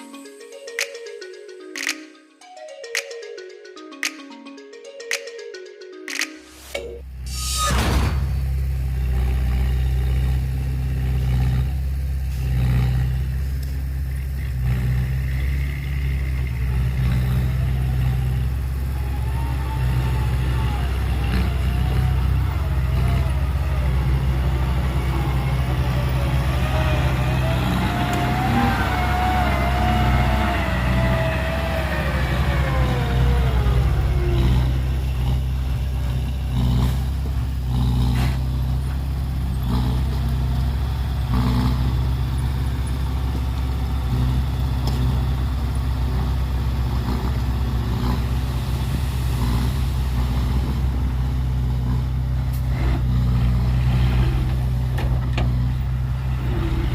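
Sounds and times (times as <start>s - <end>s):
engine whine: 6.2s - 56.9s
diesel machinery engine running: 7.0s - 56.9s.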